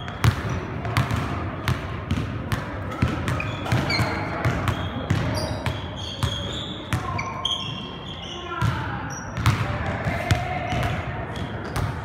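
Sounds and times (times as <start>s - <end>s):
sneakers squeaking: 0.0s - 12.0s.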